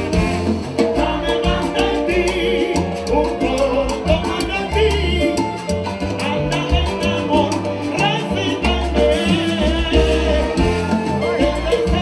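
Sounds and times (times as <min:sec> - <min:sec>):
pulsing bass line: 0:00.0 - 0:12.0
salsa band playing live: 0:00.0 - 0:12.0
steady percussion: 0:00.0 - 0:12.0
lead singer singing: 0:00.9 - 0:05.6, 0:06.2 - 0:12.0.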